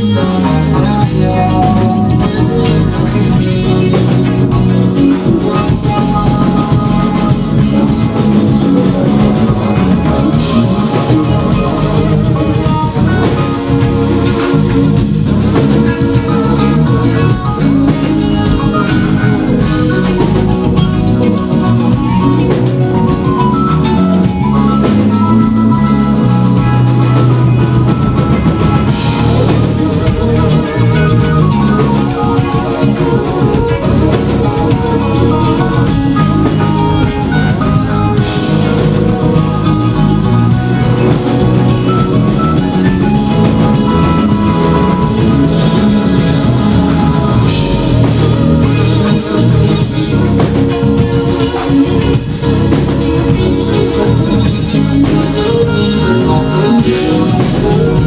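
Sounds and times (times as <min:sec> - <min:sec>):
live funk band playing: 0:00.0 - 0:58.0.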